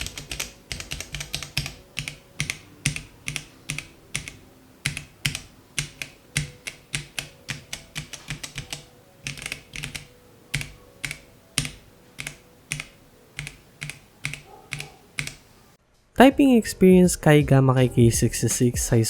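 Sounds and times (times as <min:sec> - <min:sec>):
mechanical keyboard keystroke clacks: 0:00.0 - 0:15.4.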